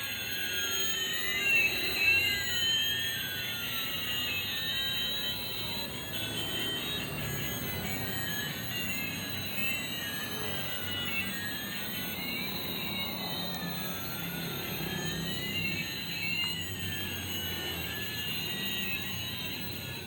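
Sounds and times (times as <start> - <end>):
toy jet whistling tones: 0.0 - 20.0.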